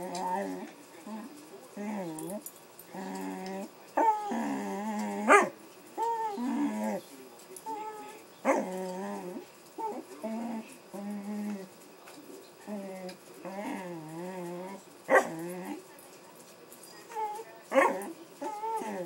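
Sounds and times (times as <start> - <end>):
dog whining and moaning: 0.0 - 7.0, 7.6 - 11.7, 12.6 - 15.8, 17.1 - 19.0.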